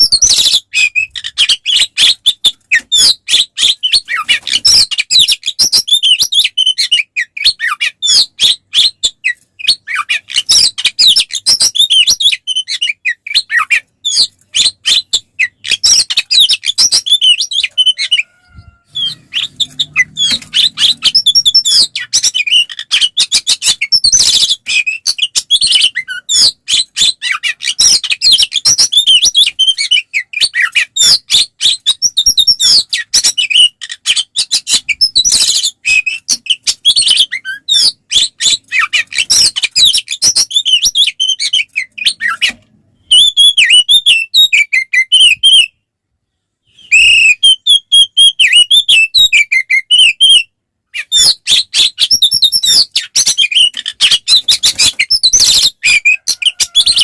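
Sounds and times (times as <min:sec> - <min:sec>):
bird singing chirps and whistles: 0:00.0 - 0:45.8, 0:46.7 - 0:57.0.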